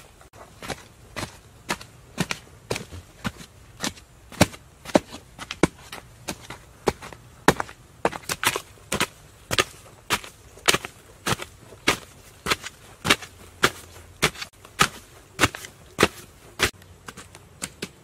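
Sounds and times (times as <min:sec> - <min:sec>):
digging tools chopping into earth: 0:00.6 - 0:18.0.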